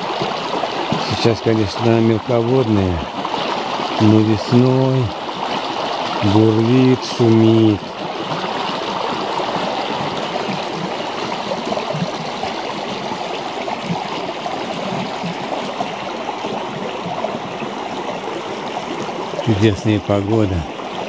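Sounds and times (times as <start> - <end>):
river burbling over stones: 0.0 - 21.0.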